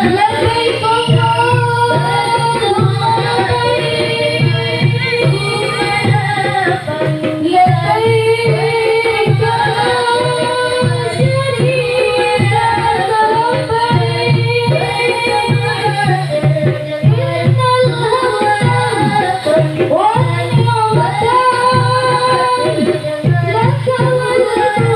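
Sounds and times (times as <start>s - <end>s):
low hand-drum beats: 0.0s - 24.9s.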